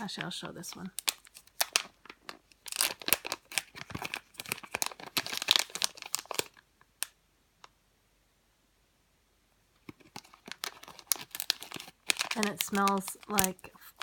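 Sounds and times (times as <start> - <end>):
plastic packaging crackling: 0.0 - 7.2, 9.8 - 14.0.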